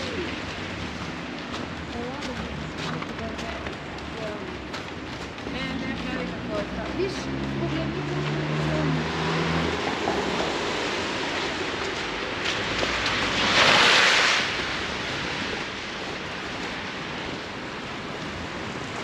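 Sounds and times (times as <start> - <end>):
blustery wind: 0.0 - 19.0
street noise: 0.0 - 19.0.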